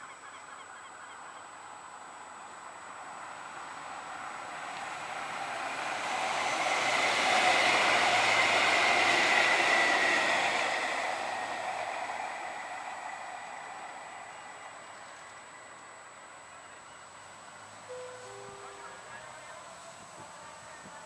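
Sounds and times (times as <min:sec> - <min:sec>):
electric tram whine: 0:01.4 - 0:21.0
wheels on rail: 0:02.0 - 0:21.0.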